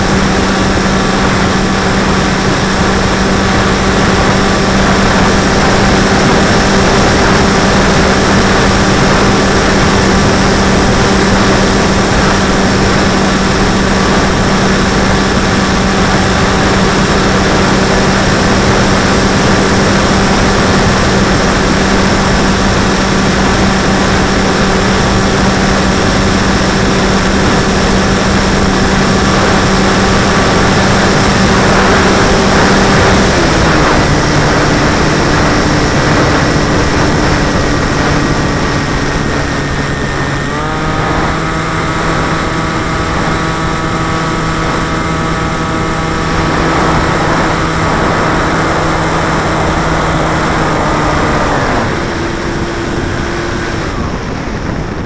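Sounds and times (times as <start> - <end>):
electric motor and propeller whine: 0.0 - 55.0
wind rush: 0.0 - 55.0.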